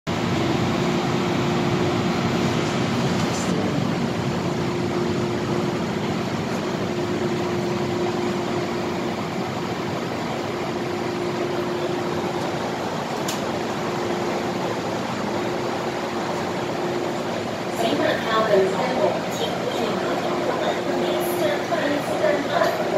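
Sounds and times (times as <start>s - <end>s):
train air-conditioning hum: 0.1s - 22.9s.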